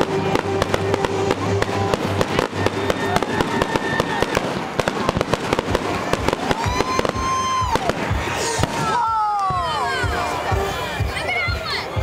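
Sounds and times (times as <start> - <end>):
fireworks bangs and crackles: 0.0 - 10.4.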